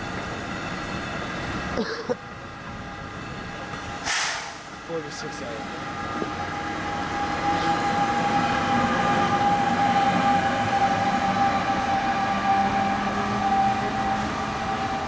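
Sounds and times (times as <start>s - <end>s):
electric locomotive whine: 0.0s - 15.0s
train coaches rolling past: 0.0s - 15.0s.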